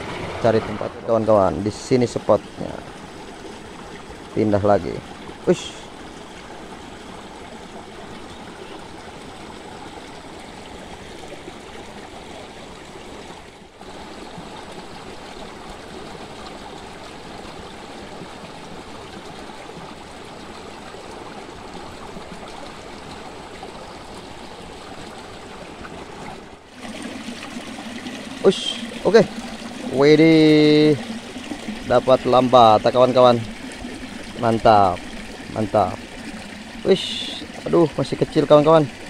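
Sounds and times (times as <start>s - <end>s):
stream rushing and splashing: 0.0s - 39.0s.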